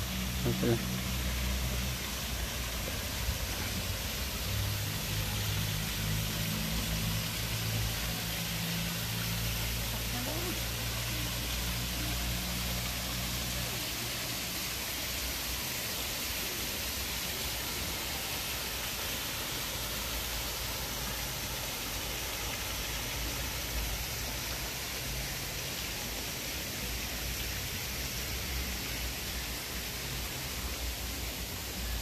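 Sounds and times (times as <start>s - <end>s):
water rushing: 0.0s - 32.0s.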